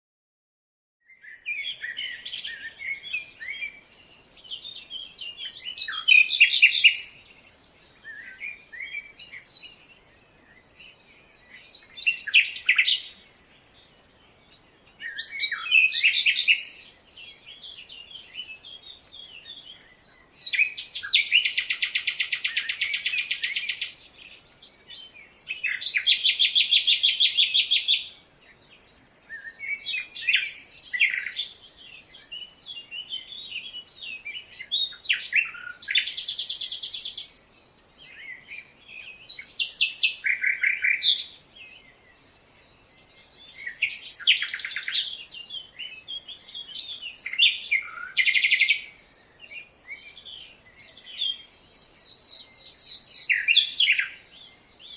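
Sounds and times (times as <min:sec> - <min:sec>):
birds singing and chirping: 0:01.0 - 0:54.9
rapid pulsed bird trills: 0:01.1 - 0:54.9.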